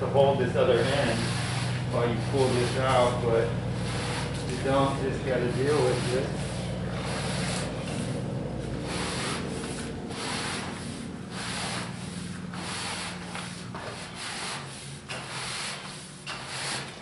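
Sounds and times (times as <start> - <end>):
rubber seal rubbing and sliding: 0.8 - 17.0.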